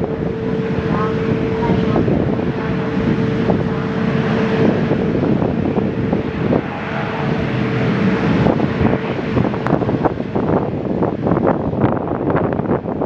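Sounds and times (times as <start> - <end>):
jet engines rumbling: 0.0 - 13.0
wind on microphone: 0.0 - 13.0.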